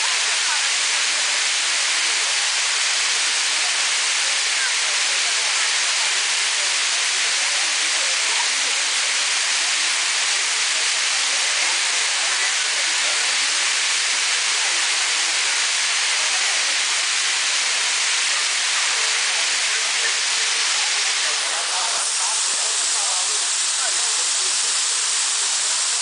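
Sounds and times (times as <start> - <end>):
waterfall pouring over rock: 0.0 - 26.0.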